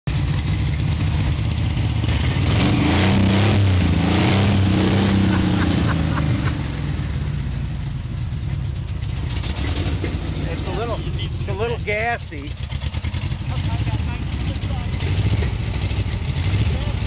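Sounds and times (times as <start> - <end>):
car engine revving and idling: 0.1 - 17.0.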